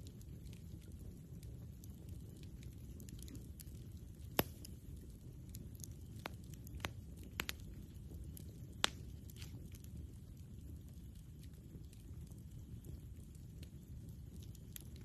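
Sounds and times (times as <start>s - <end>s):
low fire rumble: 0.0s - 15.0s
wood pops and crackles: 0.0s - 15.0s.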